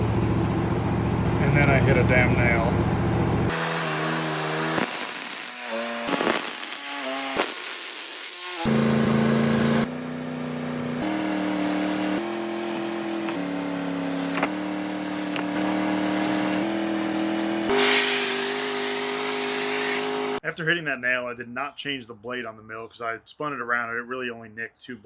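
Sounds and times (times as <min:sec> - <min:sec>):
sawmill engine hum: 0:00.0 - 0:20.4.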